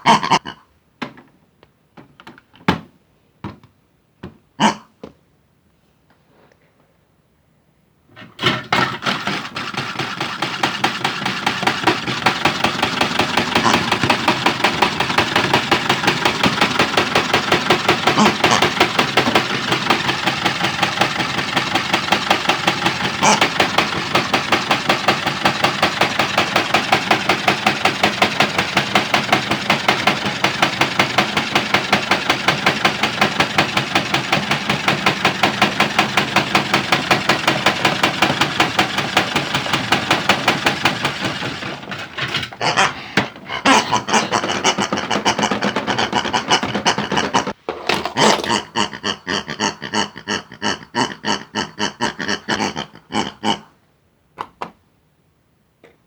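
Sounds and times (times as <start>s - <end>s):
toy washing machine knocking: 1.0s - 1.3s, 2.0s - 4.4s, 8.2s - 53.6s.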